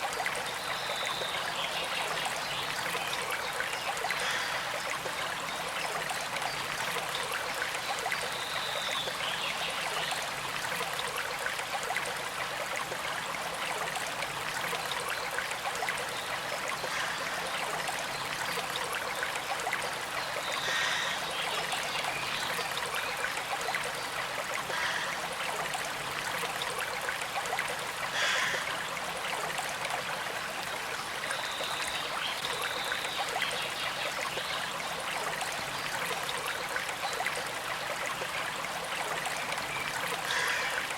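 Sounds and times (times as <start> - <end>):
small stream trickling: 0.0 - 40.9.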